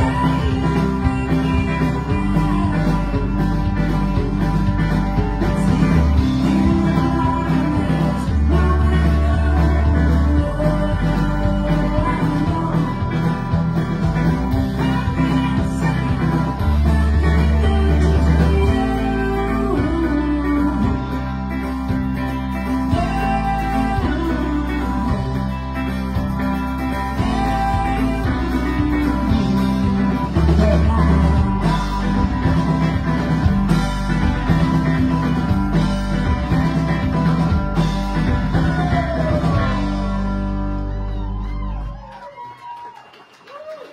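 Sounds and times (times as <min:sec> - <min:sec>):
drums: 0:00.0 - 0:43.9
electric guitar: 0:00.0 - 0:43.9
live rock band playing: 0:00.0 - 0:43.9.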